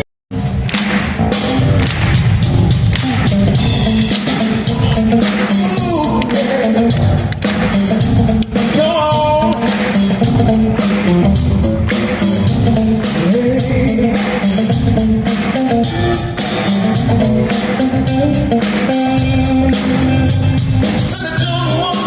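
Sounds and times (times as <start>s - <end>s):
live rock band playing: 0.0s - 22.0s
electric guitar: 0.4s - 22.0s.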